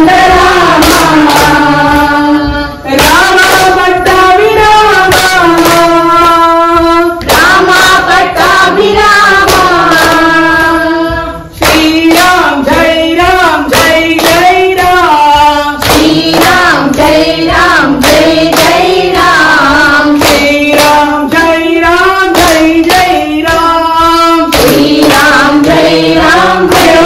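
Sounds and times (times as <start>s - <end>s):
devotional singing: 0.0s - 27.0s
hand claps: 0.0s - 27.0s.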